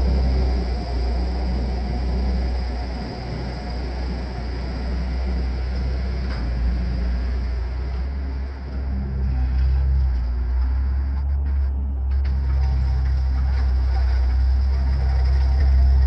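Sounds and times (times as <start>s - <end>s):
compact machine engine rumbling: 0.0s - 16.0s.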